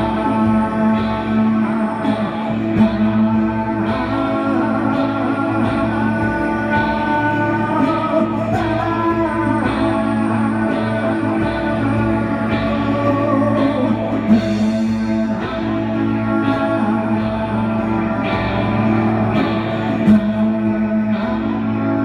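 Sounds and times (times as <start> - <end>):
electric guitar: 0.0 - 22.0
man singing: 0.0 - 22.0.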